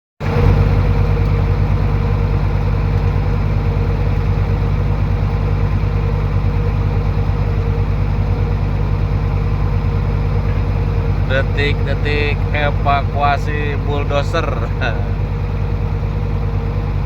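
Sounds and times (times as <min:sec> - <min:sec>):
diesel engine running: 0:00.2 - 0:17.0
faint steady whine: 0:00.2 - 0:17.0.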